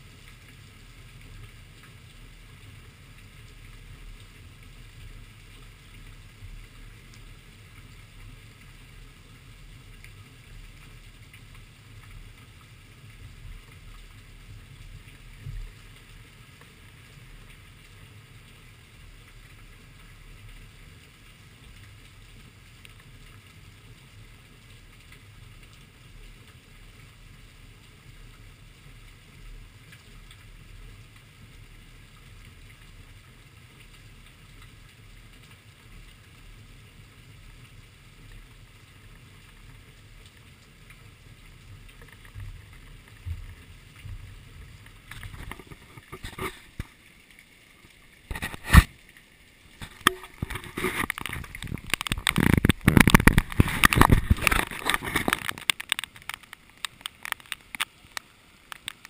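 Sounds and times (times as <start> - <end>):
raindrops hitting camera: 0.0 - 59.0
steady rain falling: 0.0 - 59.0.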